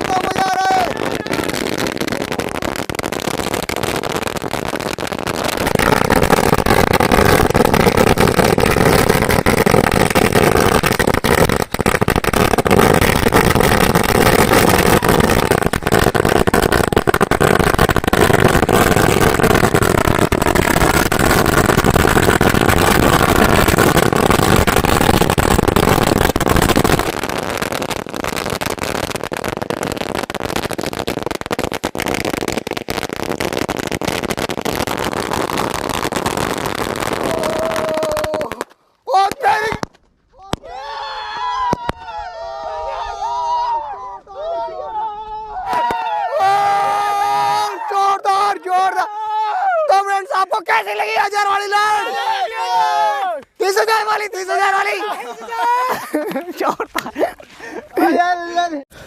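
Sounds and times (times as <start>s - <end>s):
firecrackers crackling: 0.0s - 40.7s, 45.7s - 49.1s, 49.9s - 52.0s, 53.4s - 58.1s.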